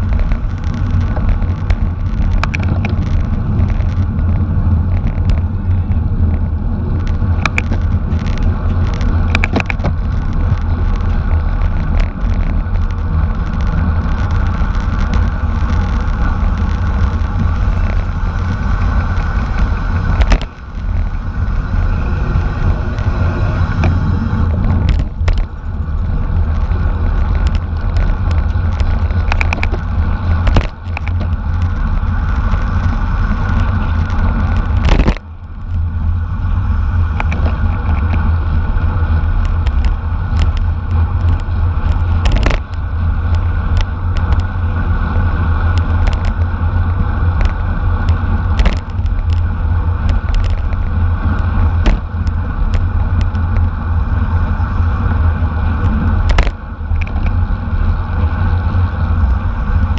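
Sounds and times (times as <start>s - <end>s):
knocks and rattles from road bumps: 0.0s - 59.9s
wind buffeting microphone: 0.0s - 59.9s.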